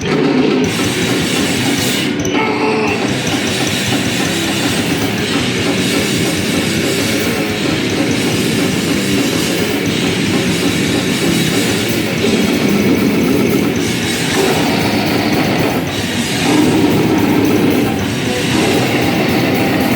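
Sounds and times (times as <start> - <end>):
distorted amplified noise: 0.0 - 19.9.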